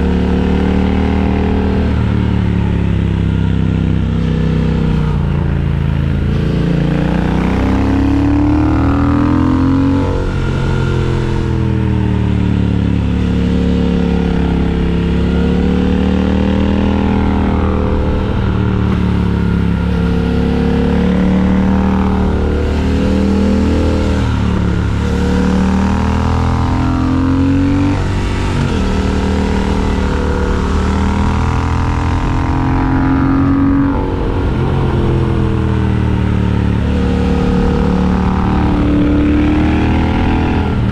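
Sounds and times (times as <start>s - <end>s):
motorcycle engine under way: 0.0s - 40.9s.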